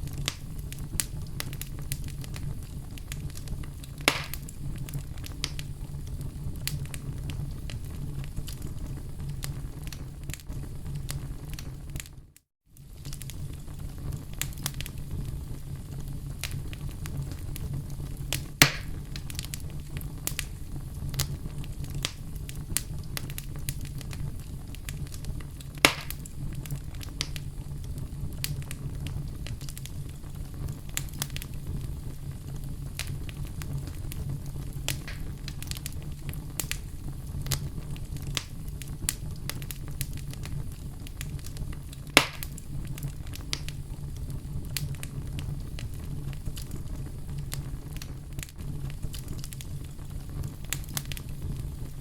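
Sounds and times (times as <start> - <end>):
campfire rumbling: 0.0 - 52.0
wood crackling and popping: 0.0 - 52.0.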